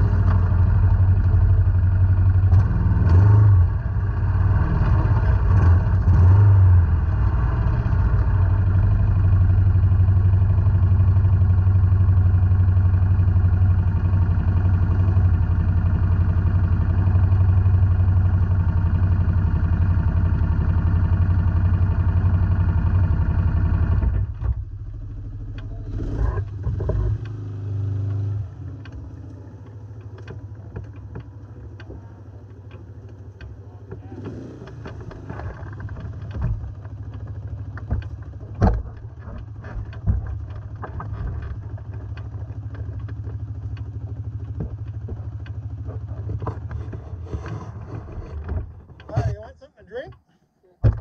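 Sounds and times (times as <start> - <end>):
quad engine idling: 0.0 - 50.1.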